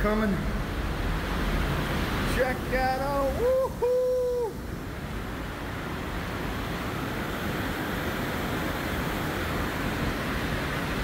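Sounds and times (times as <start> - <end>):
ship wake rushing: 0.0 - 11.0
wind: 0.0 - 11.0.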